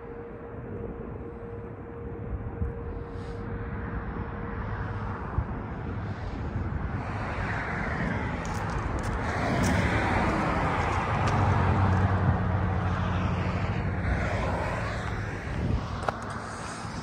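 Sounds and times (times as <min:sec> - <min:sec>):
highway traffic passing: 0:00.0 - 0:17.0.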